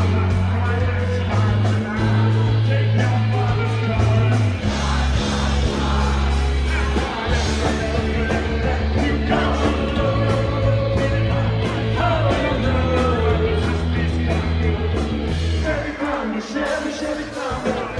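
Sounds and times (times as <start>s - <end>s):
live rock band playing: 0.0s - 17.9s
man singing: 0.0s - 17.9s.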